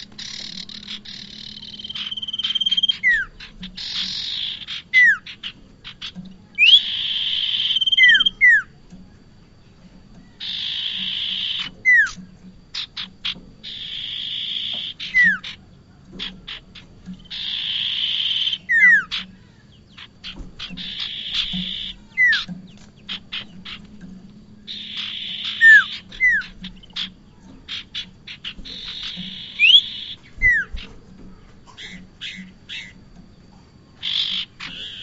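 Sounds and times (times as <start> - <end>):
bird trilling and whistling: 0.0 - 8.8, 10.3 - 31.0, 31.7 - 33.0, 34.0 - 35.0
bird chipping notes: 0.0 - 35.0.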